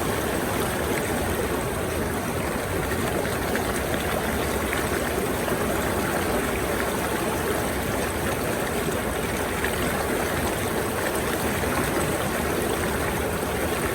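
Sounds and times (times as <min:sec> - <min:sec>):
stream rushing and burbling: 0:00.0 - 0:13.9.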